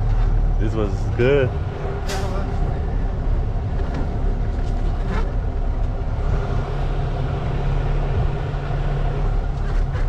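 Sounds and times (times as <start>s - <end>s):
diesel engine running at low revs: 0.0s - 10.0s.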